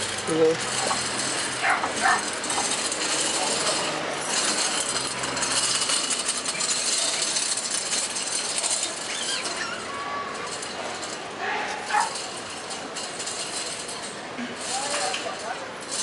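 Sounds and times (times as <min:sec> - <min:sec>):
busy shop ambience: 0:00.0 - 0:16.0
high rising squeaks: 0:00.0 - 0:16.0.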